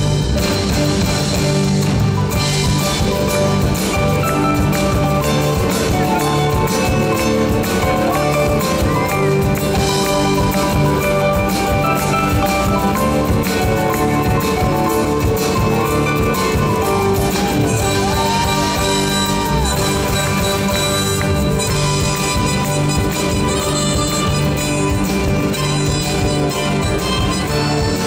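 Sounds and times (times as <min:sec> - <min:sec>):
live folk band playing: 0:00.0 - 0:28.0
harmonica: 0:02.5 - 0:28.0.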